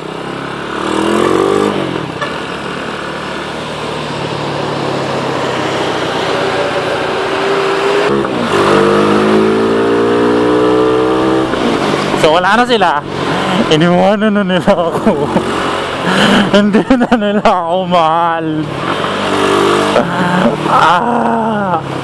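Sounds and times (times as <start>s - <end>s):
motorcycle engine accelerating: 0.0s - 17.2s, 18.0s - 22.0s.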